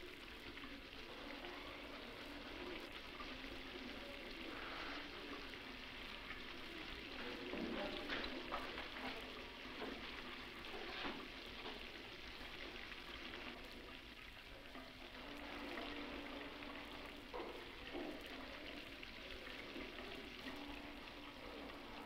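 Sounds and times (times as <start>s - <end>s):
steady hiss with crackling: 0.0s - 22.0s.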